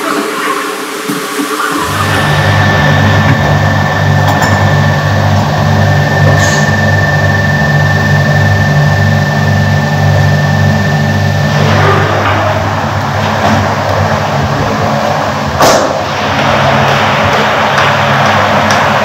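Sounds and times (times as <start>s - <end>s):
printing press drone: 0.0s - 19.0s
thin steady whine: 0.0s - 19.0s.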